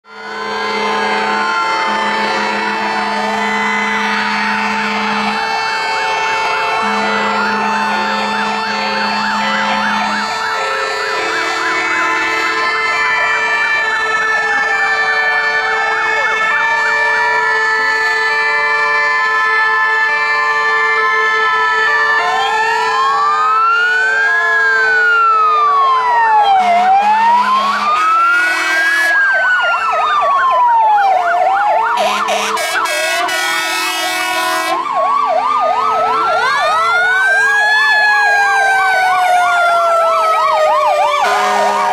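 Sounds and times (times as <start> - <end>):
fire engine sirens: 0.0 - 41.9.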